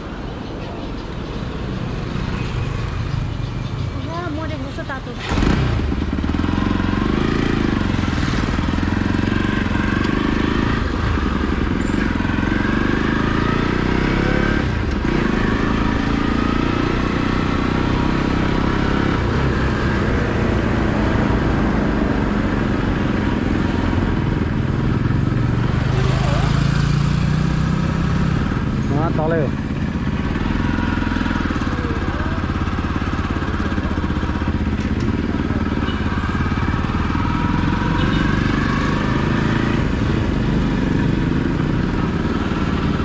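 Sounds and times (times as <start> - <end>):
motorcycle engine running: 1.3 - 43.0.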